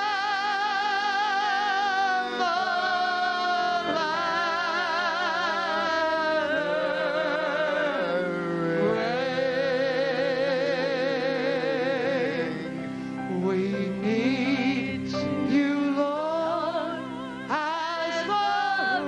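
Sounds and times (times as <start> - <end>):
person singing worship chorus: 0.0 - 19.0
sustained accompaniment chords: 0.0 - 19.0.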